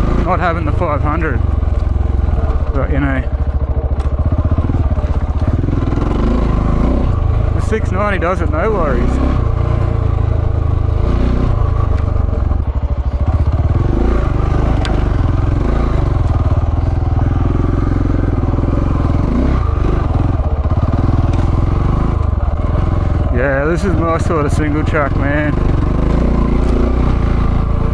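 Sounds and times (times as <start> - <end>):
motorcycle engine on throttle: 0.0 - 27.9.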